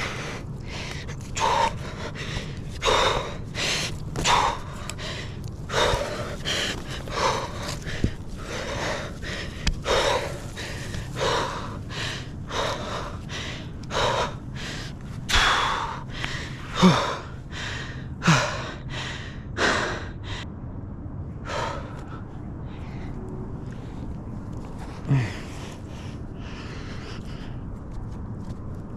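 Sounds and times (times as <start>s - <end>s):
person breathing hard: 0.0s - 20.6s, 21.4s - 27.9s.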